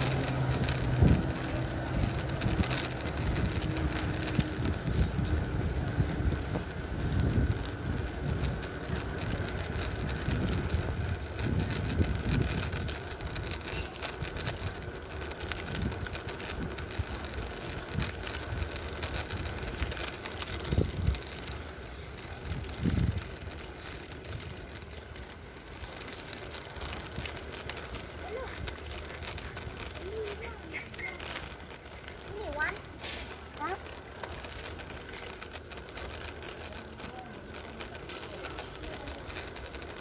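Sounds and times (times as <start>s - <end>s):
wind buffeting microphone: 0.0s - 33.6s
road and tyre noise: 0.0s - 40.0s.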